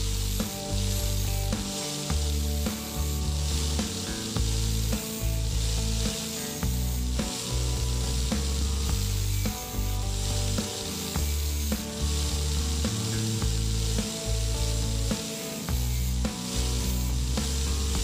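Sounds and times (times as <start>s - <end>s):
angle grinder grinding drill bit: 0.0s - 18.0s
grinder motor hum: 0.0s - 18.0s.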